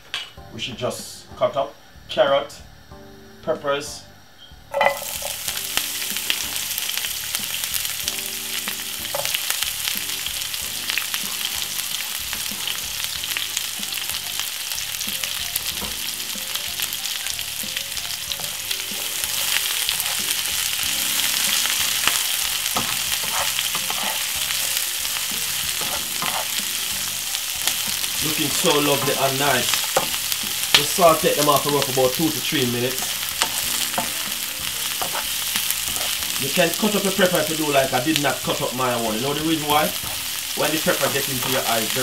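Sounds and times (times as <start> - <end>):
vegetables sizzling in oil: 4.6 - 42.0.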